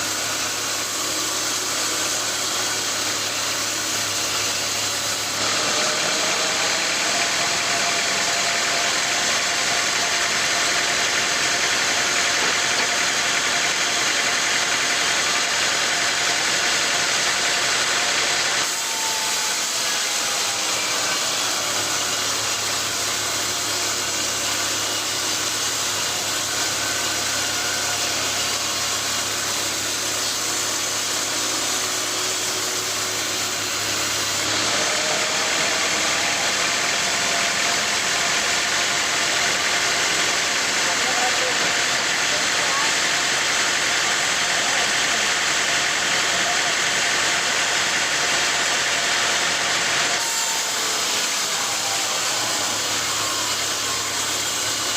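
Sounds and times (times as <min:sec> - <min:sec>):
sawmill machinery droning: 0:00.0 - 0:54.9.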